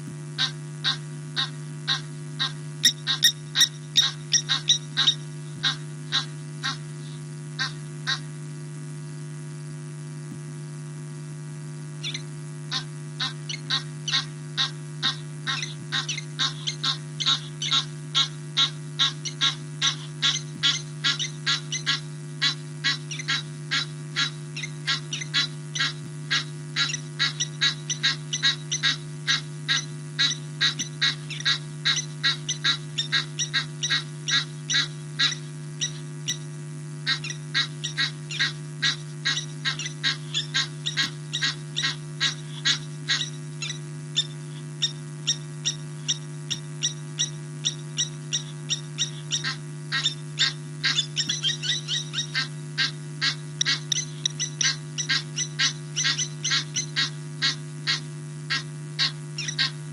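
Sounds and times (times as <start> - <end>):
electrical hum: 0.0 - 59.9
birds alarm-calling: 0.4 - 8.3, 12.0 - 59.9.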